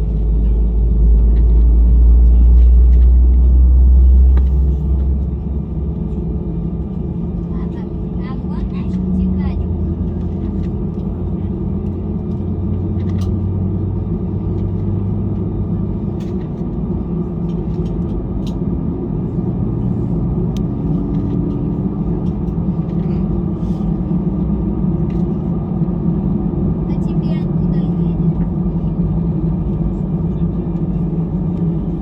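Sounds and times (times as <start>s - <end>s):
airliner engines idling: 0.0s - 32.0s.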